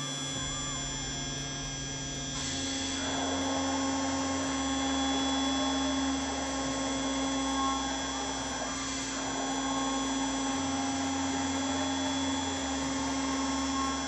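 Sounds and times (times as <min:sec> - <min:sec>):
low hum: 0:00.0 - 0:14.0
router spindle whine: 0:00.0 - 0:14.0.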